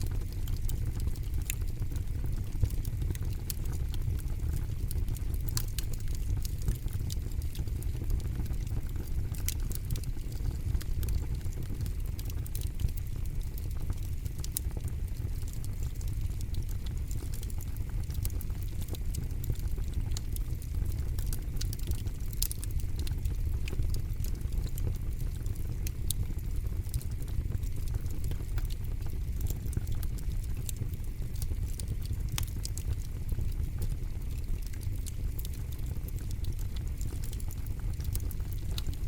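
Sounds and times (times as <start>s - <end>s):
campfire crackling and popping: 0.0s - 39.0s
low rumble of flames: 0.0s - 39.0s.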